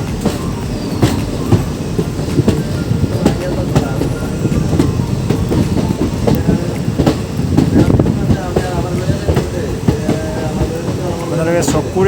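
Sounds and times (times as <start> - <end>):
train rumble: 0.0 - 12.0
wheels clattering over rail joints: 0.0 - 12.0.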